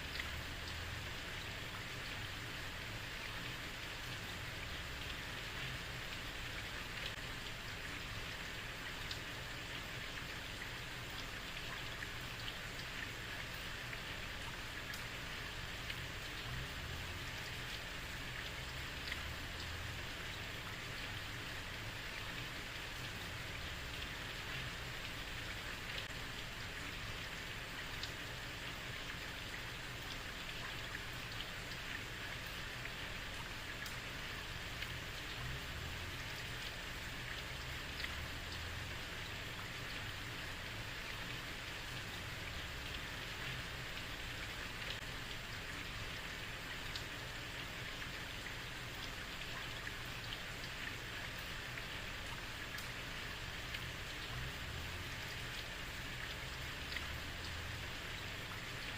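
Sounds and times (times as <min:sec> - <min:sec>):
heavy rain on a street: 0:00.0 - 0:58.9.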